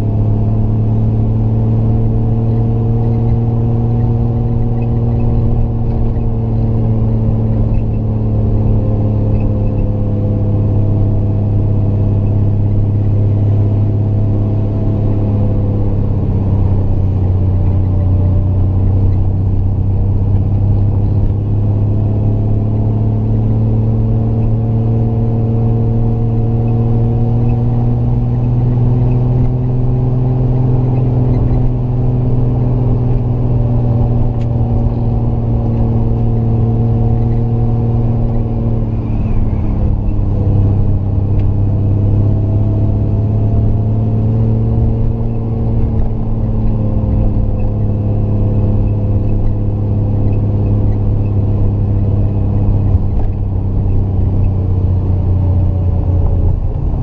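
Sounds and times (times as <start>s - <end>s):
car engine pulling uphill: 0.0s - 57.0s.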